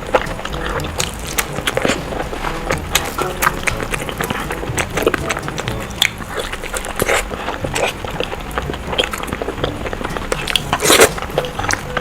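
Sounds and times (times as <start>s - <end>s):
lip smacks: 0.0s - 12.0s
wet chewing: 0.0s - 12.0s.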